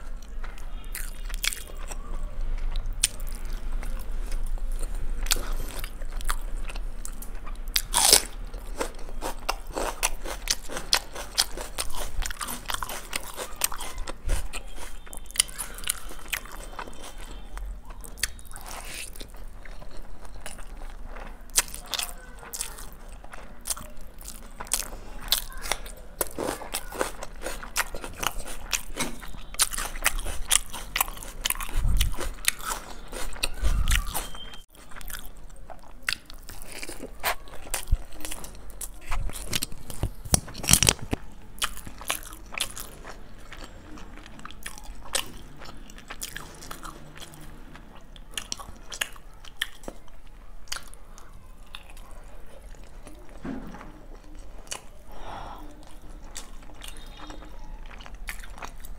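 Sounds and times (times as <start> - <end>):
chewing and biting: 0.0 - 55.1, 55.8 - 58.9.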